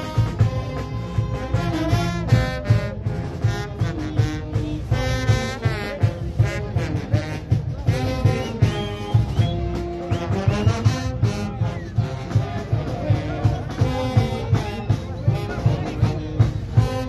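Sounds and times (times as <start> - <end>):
brass band playing dance music: 0.0 - 17.0
steady drum beat: 0.0 - 17.0.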